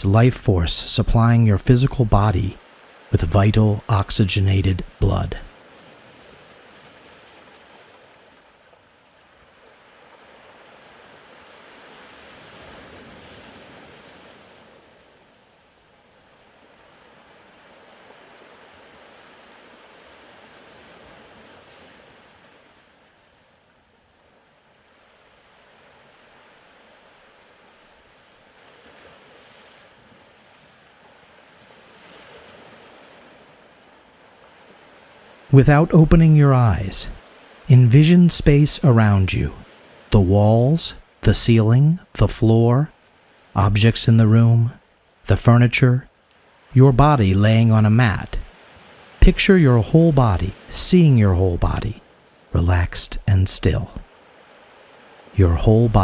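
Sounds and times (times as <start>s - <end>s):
soft surf washing: 0.0s - 56.0s.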